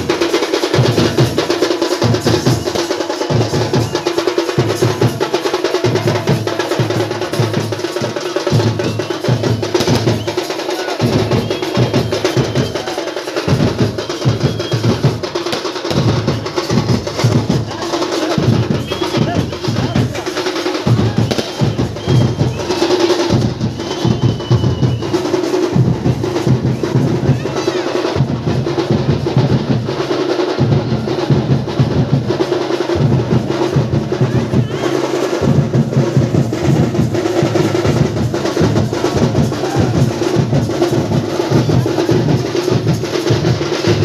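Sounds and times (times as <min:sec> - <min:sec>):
drums beating fast rhythm: 0:00.0 - 0:44.0.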